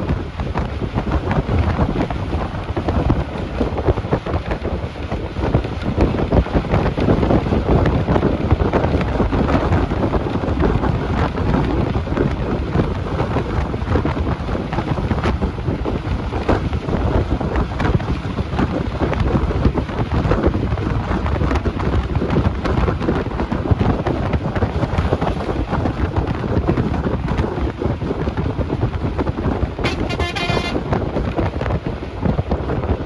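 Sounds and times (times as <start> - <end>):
bus engine and road noise: 0.0 - 33.0
wind on microphone: 0.0 - 33.0.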